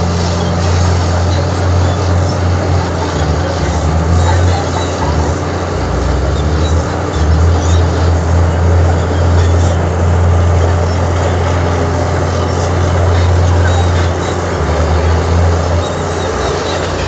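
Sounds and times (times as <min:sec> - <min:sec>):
heavy diesel machinery engine: 0:00.0 - 0:17.0.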